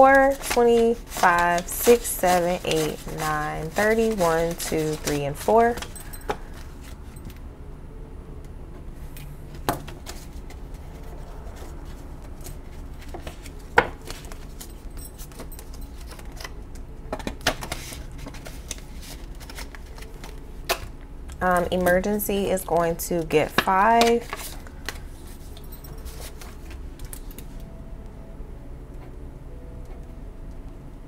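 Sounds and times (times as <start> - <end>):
banknotes rustling: 0.0 - 7.3, 9.5 - 16.6, 17.2 - 27.6
low steady hum: 0.0 - 31.0.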